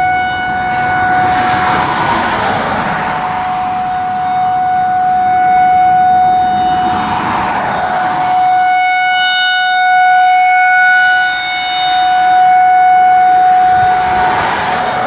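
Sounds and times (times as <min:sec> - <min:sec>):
passing car road noise: 0:00.0 - 0:15.0
rotating siren alert tone: 0:00.0 - 0:15.0.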